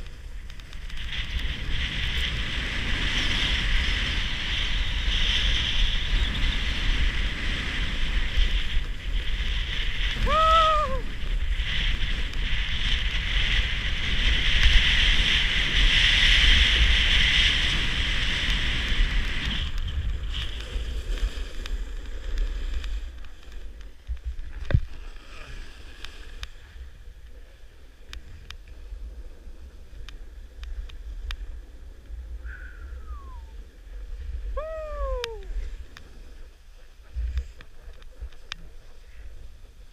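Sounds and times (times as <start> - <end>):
skis sliding on snow: 0.0 - 32.6, 33.4 - 39.9
wind on microphone: 0.0 - 39.9.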